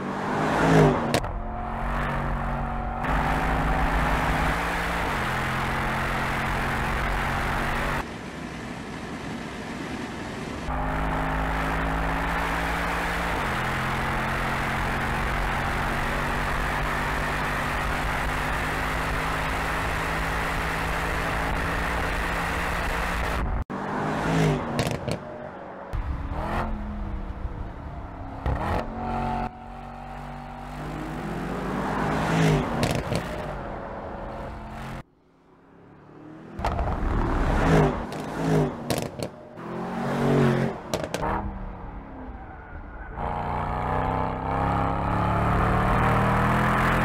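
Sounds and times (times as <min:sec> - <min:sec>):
car engine revving: 0:00.0 - 0:08.1, 0:10.7 - 0:25.3, 0:25.9 - 0:47.0.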